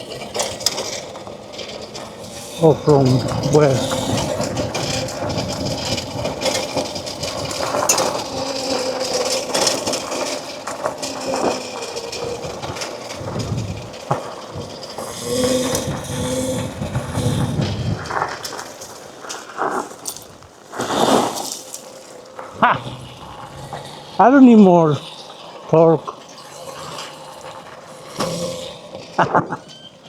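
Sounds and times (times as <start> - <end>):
drivetrain clicking and rattling: 0.0 - 30.0.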